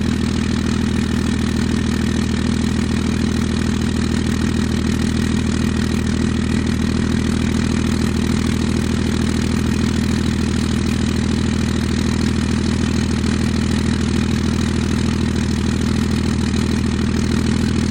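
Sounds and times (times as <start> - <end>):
diesel engine idling: 0.0 - 17.9.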